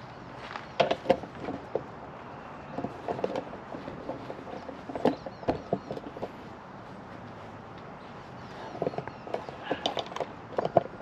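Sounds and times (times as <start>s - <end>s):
footsteps on dirt and sand: 0.3s - 0.8s, 1.4s - 9.8s.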